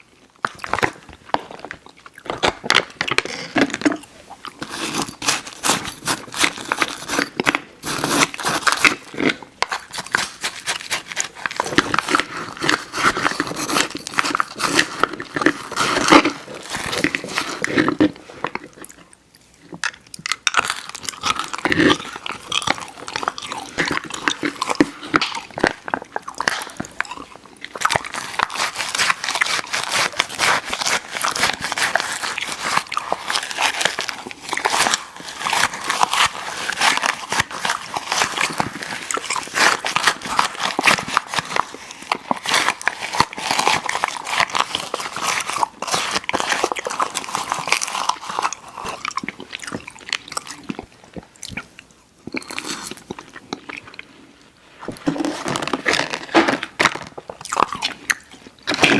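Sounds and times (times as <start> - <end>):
mouth chewing candy: 0.0 - 58.9.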